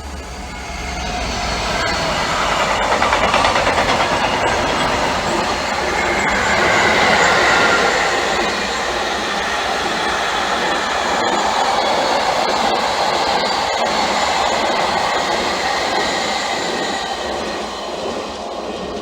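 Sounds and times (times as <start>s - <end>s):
train wheels clattering on rails: 0.5s - 19.0s.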